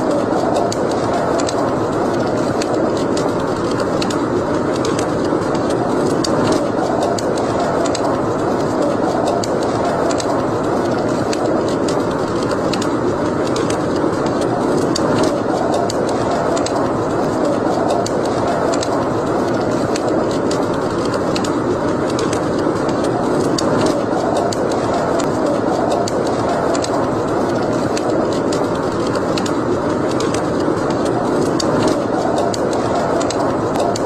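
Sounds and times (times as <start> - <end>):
fire crackling in fireplace: 0.0 - 34.0.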